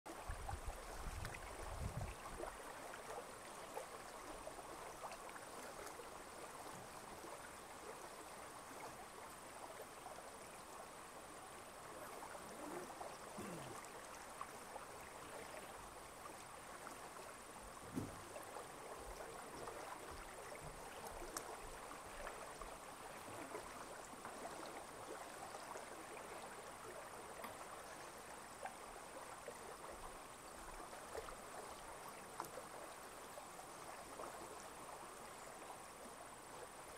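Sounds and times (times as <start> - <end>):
soft water noise: 0.1 - 36.9.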